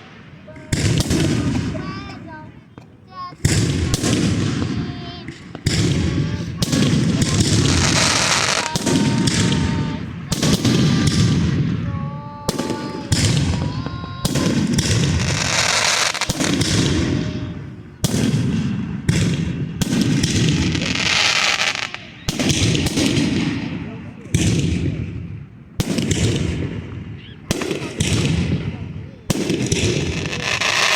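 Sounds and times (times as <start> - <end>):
fireworks banging and crackling: 0.0 - 30.9.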